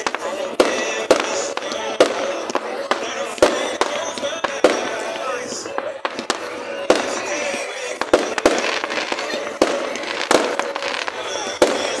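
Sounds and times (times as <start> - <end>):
firework shells bursting: 0.0 - 12.0
fireworks crackling: 0.0 - 12.0.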